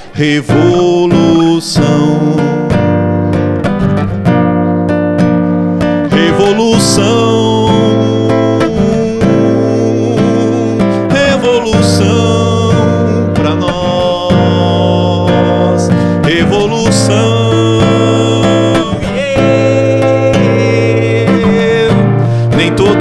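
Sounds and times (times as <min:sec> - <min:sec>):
man singing: 0:00.0 - 0:03.3, 0:06.0 - 0:23.0
strummed acoustic guitar: 0:00.0 - 0:23.0.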